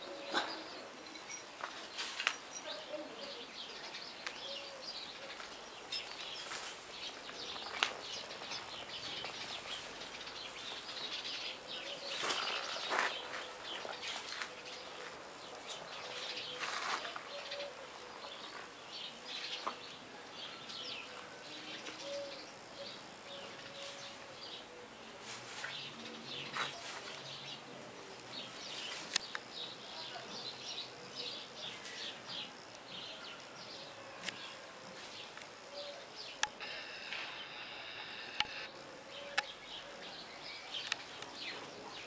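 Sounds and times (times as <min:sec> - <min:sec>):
birds chirping and calling: 0:00.0 - 0:42.0
outdoor background: 0:00.0 - 0:42.0.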